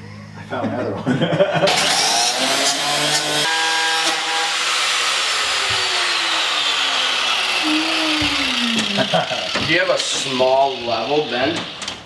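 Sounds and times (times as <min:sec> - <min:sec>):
small motor whining: 0:01.7 - 0:12.0.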